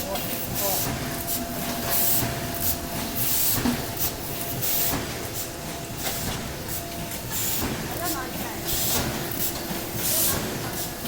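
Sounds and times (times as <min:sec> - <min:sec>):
machine clatter and hum: 0:00.0 - 0:11.0.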